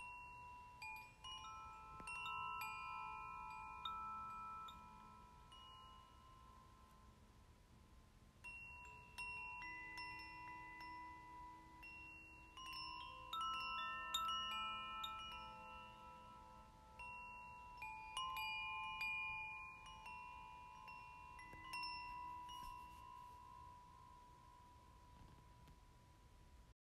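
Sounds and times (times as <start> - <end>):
wind chimes ringing: 0.0 - 7.4, 8.4 - 26.3.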